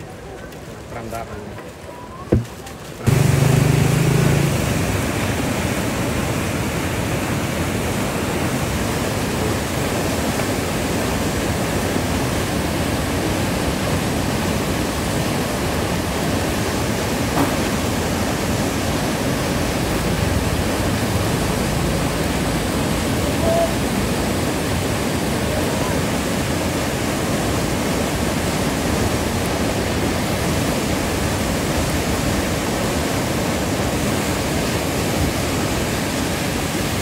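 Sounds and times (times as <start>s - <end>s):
water rushing through dam outlet: 0.0s - 37.0s.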